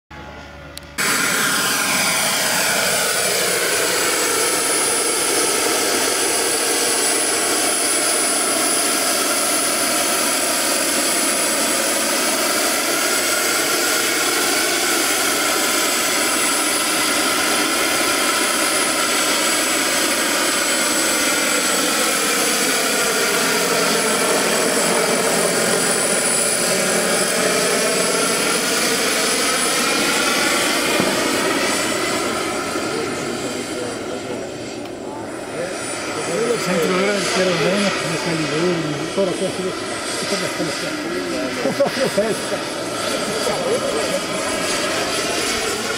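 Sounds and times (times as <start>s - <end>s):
model helicopter turbine whine: 0.1s - 45.9s.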